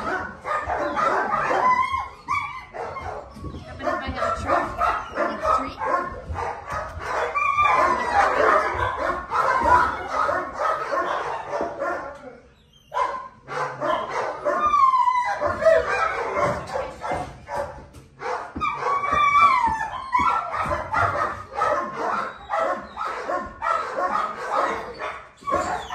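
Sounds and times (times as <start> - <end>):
dog drawn-out falling cries: 0.0 - 11.9, 13.8 - 17.6, 18.2 - 25.9
dogs barking: 0.0 - 25.9.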